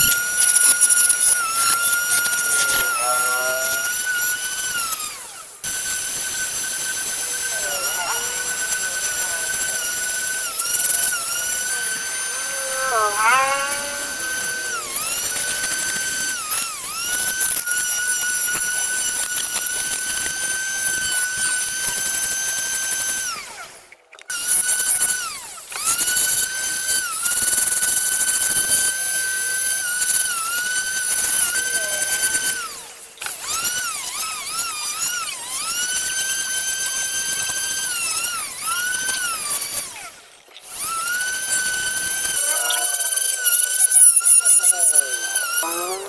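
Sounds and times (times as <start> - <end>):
rotary carving tool whining: 0.0 - 46.0.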